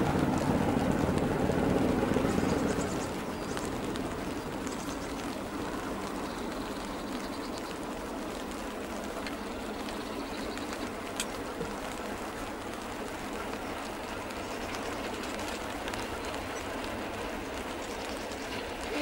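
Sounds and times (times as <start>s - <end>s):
distant diesel train rumble: 0.0s - 19.0s
light rain hiss: 0.0s - 19.0s
raindrop ticks: 0.0s - 19.0s.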